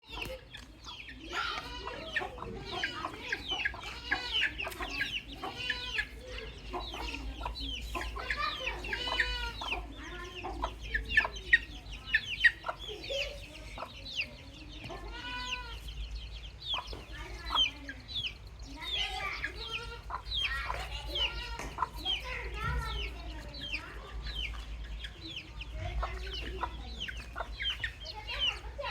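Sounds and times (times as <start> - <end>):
baby chicks peeping: 0.0 - 28.9.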